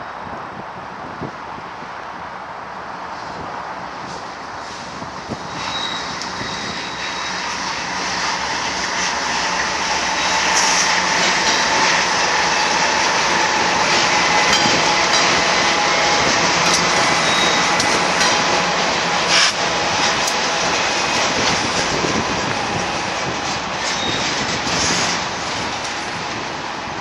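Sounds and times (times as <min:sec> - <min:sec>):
train wheels rumbling on rails: 0:00.2 - 0:27.0.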